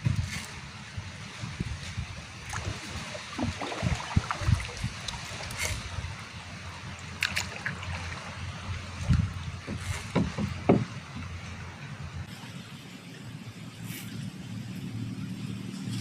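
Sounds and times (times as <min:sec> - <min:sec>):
water sloshing against boat: 0:00.0 - 0:13.2.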